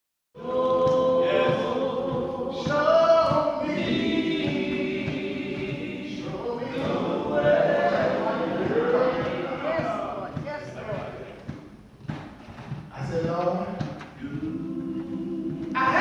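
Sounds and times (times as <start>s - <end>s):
gospel group singing in harmony: 0.4s - 11.4s, 13.8s - 16.0s.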